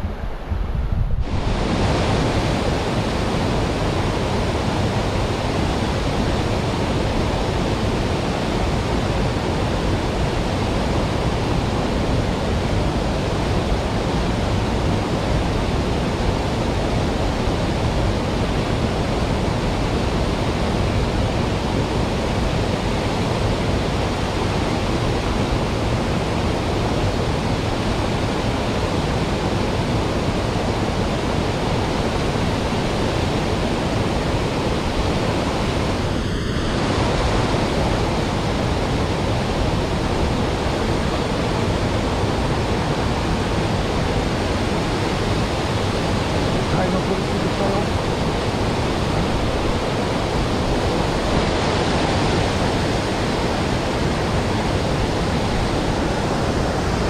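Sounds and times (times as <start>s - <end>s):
mountain stream rushing: 1.2s - 57.0s.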